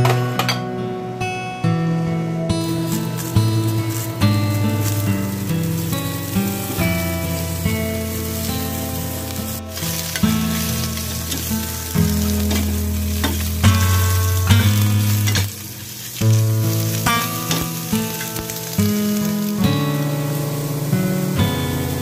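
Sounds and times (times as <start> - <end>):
background music with held notes: 0.0 - 22.0
mushrooms sizzling in a pan: 2.6 - 22.0.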